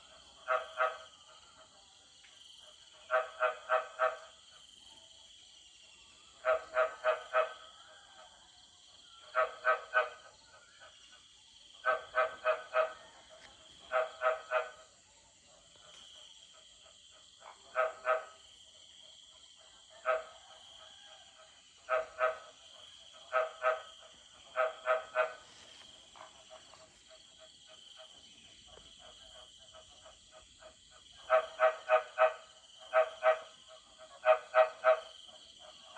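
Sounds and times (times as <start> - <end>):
frogs croaking: 0.0 - 35.9
insect chorus: 0.0 - 35.9.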